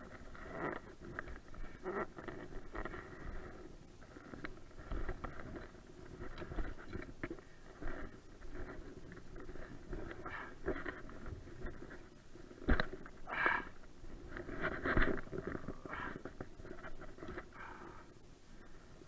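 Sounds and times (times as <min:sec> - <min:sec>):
fishing tackle rustling and knocking: 0:00.0 - 0:17.7
steady dull hiss: 0:00.0 - 0:19.0.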